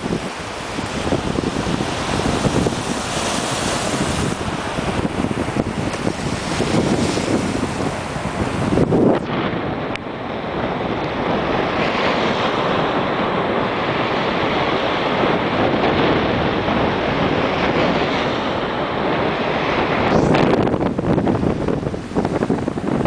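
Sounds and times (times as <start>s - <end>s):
sea surf washing on shore: 0.0s - 23.0s
wind rumbling on microphone: 0.0s - 23.0s.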